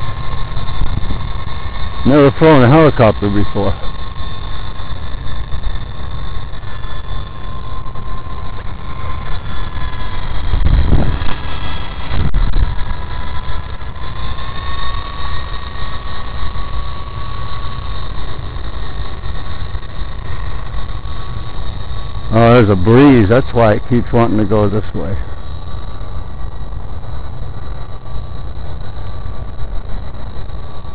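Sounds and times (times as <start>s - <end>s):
rc helicopter motor whine: 0.0s - 30.9s
wind rumbling on microphone: 0.0s - 30.9s.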